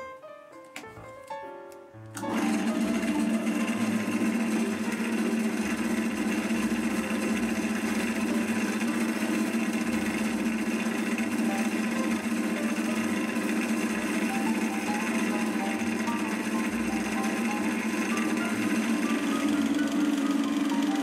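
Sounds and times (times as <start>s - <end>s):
lathe motor humming: 2.2s - 21.0s.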